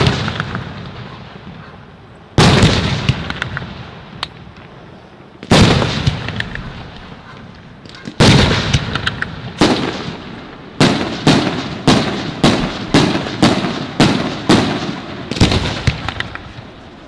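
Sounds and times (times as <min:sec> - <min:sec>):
fireworks bursting with echo: 0:00.0 - 0:01.8, 0:02.4 - 0:04.6, 0:05.4 - 0:17.0.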